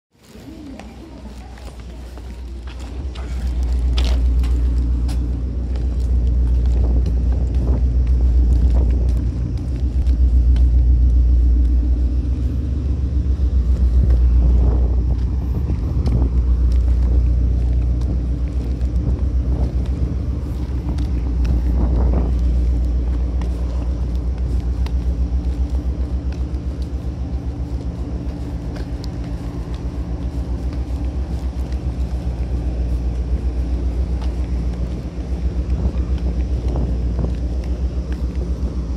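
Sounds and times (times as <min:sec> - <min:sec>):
low machinery rumble: 0:00.1 - 0:38.9
constant low hum: 0:00.2 - 0:38.9.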